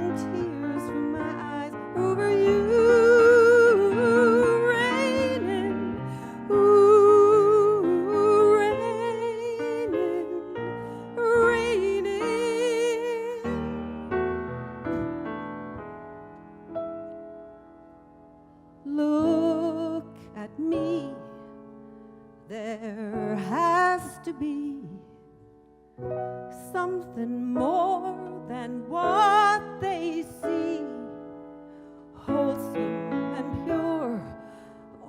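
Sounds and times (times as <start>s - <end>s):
piano accompaniment: 0.0s - 35.0s.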